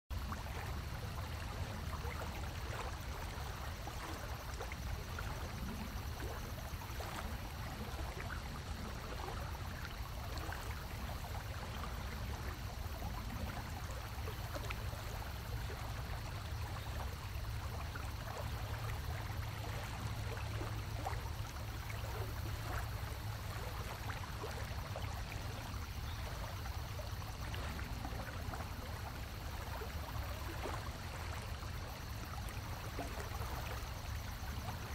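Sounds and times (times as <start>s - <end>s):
water trickling and gurgling: 0.1s - 34.9s.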